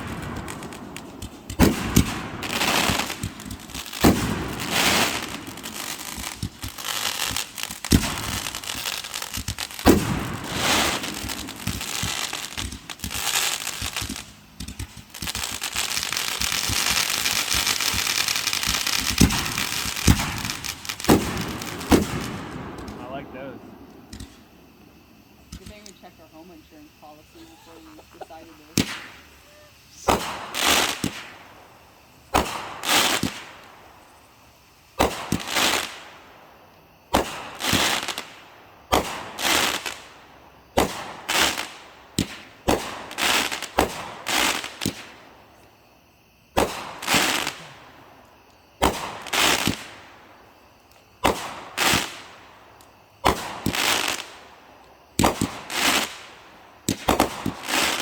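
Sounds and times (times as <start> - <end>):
firework launch pops: 0.0 - 26.0, 27.7 - 34.2, 35.0 - 36.3, 37.1 - 45.8, 46.5 - 50.2, 50.8 - 58.0
firework shells bursting: 0.0 - 45.8, 46.5 - 58.0.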